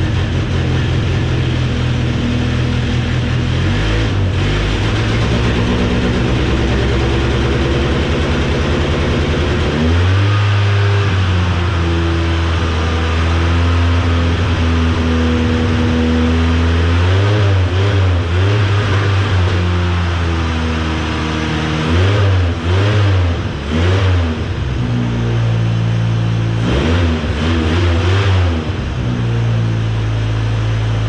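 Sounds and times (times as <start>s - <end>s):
pickup engine running unsteadily: 0.0s - 31.0s.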